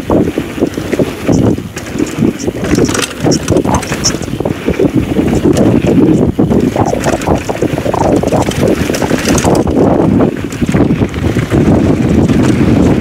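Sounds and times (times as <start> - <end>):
bike clicks and rattles: 0.0 - 13.0
wind buffeting microphone: 0.0 - 13.0
tyres crunching on gravel: 0.7 - 13.0.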